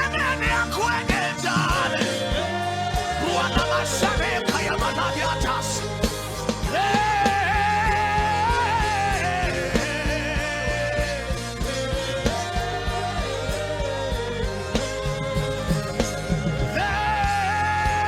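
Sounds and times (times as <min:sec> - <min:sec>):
long held melody line: 0:00.0 - 0:18.0
worship band music: 0:00.0 - 0:18.0.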